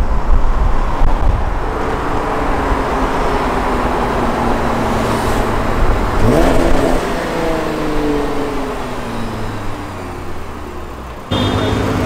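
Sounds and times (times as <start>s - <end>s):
car engine revving: 0.8s - 12.0s.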